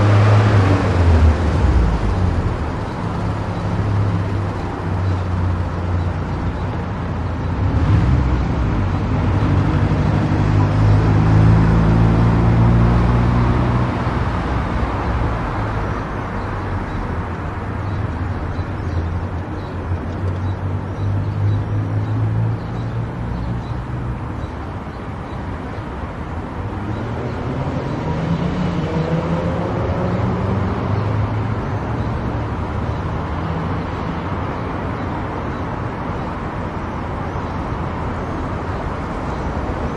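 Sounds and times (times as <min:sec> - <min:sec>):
car engine: 0:00.0 - 0:39.9
tyre noise on road: 0:00.0 - 0:39.9.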